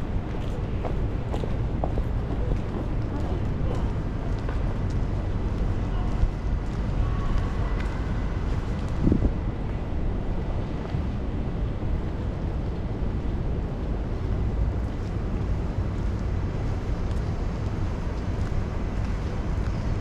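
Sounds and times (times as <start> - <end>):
city traffic rumble: 0.0 - 20.0
wind: 0.0 - 20.0.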